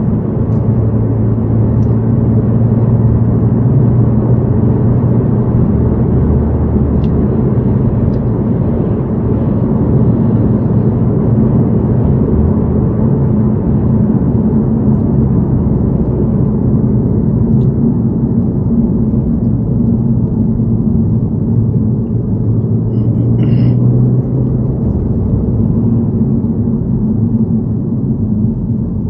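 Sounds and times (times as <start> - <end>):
car cabin road and engine noise: 0.0 - 29.0.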